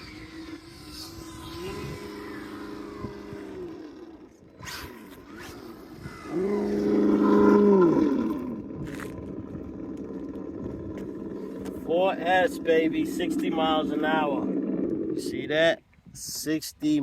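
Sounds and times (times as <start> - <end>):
electric rc car whine: 0.0 - 15.2.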